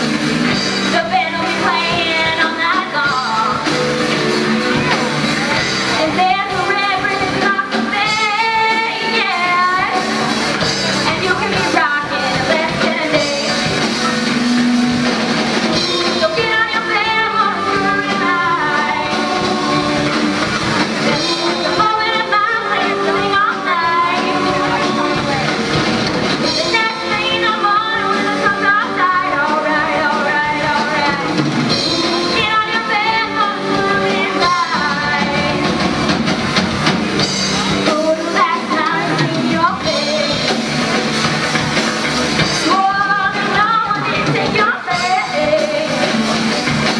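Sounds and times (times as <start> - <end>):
person singing: 0.0 - 46.9
rock band playing: 0.0 - 46.9.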